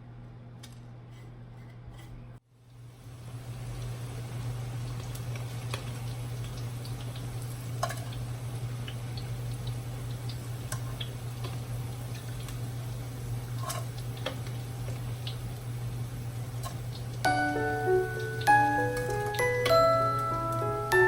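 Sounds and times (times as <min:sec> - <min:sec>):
deep-frying crackles and pops: 0:02.6 - 0:21.0.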